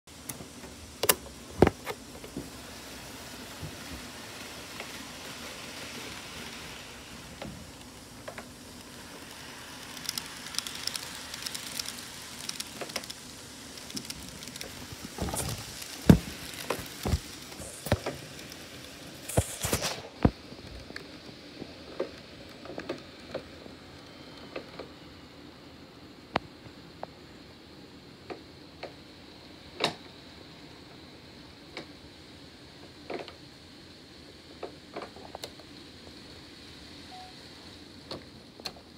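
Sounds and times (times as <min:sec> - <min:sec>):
model train rolling hiss: 0:00.1 - 0:38.9.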